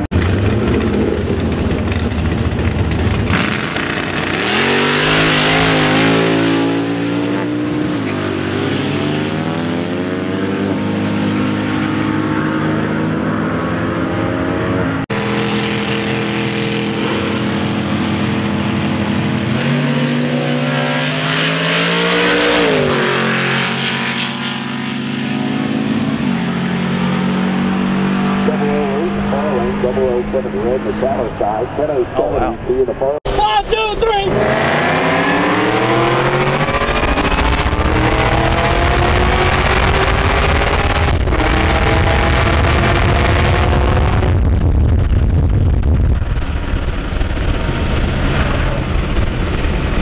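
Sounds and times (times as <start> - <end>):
drag car engines at full throttle: 0.0 - 50.0.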